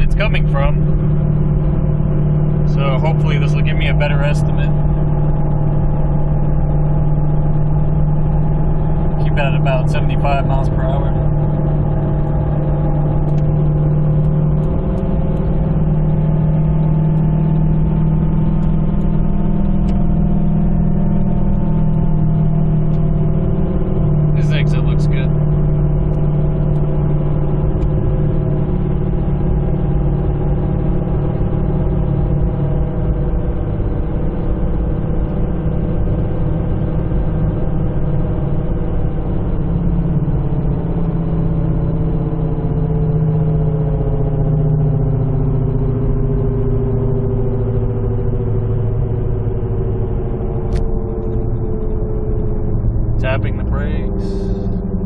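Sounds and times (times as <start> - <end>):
road and drivetrain drone: 0.0 - 55.0.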